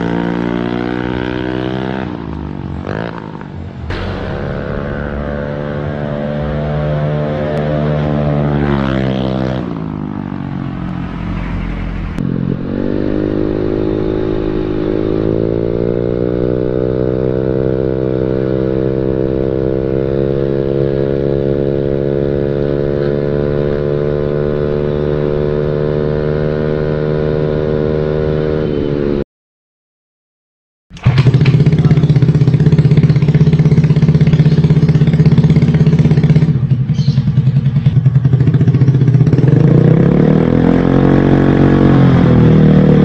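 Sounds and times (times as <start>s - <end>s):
scooter engine revving: 0.0s - 10.6s, 12.2s - 29.2s, 31.0s - 43.0s.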